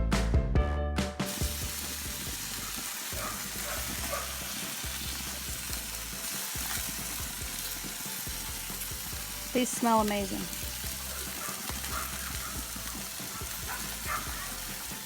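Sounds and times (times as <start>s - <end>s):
meat sizzling on a grill: 1.2s - 15.0s.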